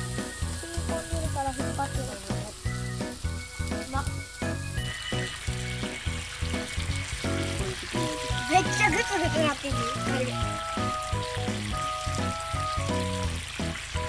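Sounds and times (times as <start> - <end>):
background music with steady beat: 0.0 - 14.0
food sizzling in a pan: 0.0 - 14.0.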